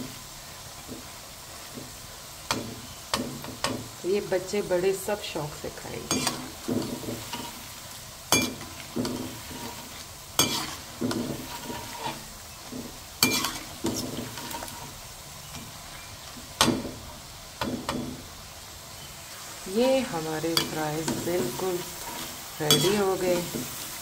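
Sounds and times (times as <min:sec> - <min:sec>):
fries sizzling in hot oil: 0:00.0 - 0:24.0.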